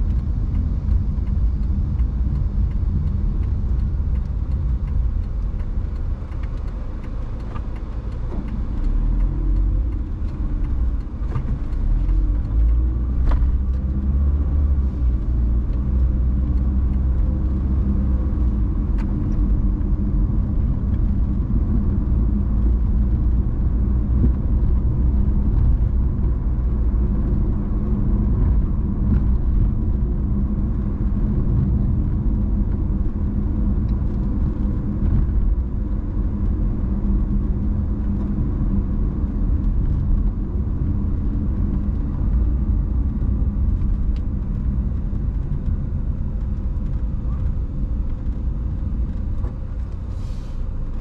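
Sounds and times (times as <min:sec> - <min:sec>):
car road and engine rumble: 0:00.0 - 0:51.0.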